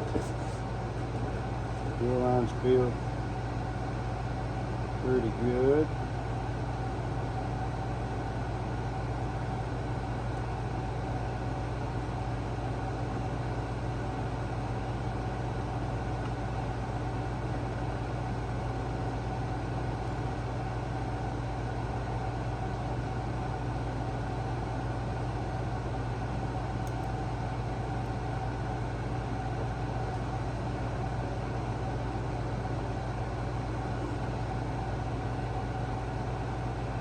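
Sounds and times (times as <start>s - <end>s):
air conditioner hum: 0.0s - 37.0s
electric fan running: 0.0s - 37.0s.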